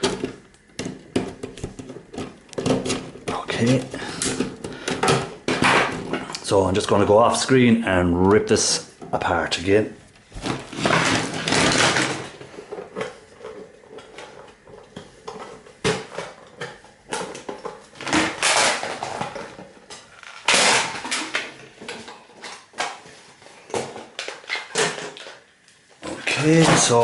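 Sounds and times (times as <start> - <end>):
plastic casing cracking and clattering: 0.0 - 7.0, 10.1 - 27.0.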